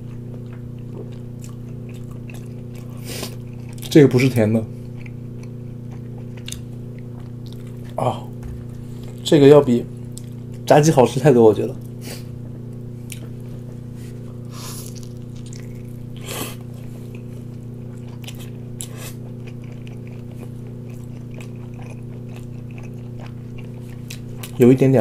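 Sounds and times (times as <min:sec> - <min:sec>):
biting and chewing chicken: 0:00.0 - 0:10.7, 0:11.8 - 0:25.0
low hum: 0:00.0 - 0:25.0.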